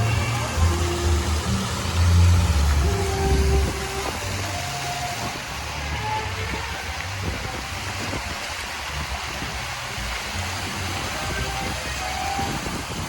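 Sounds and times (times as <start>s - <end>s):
fountain jets splashing: 0.0s - 13.0s.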